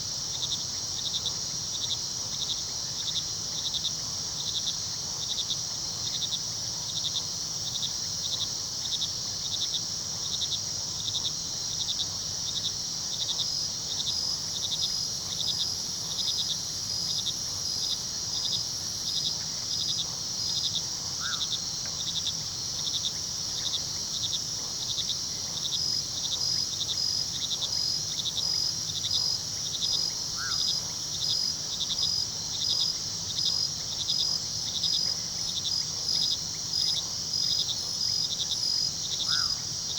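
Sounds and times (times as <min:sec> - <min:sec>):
crickets chirping: 0:00.0 - 0:39.9
crickets trilling: 0:00.1 - 0:39.9.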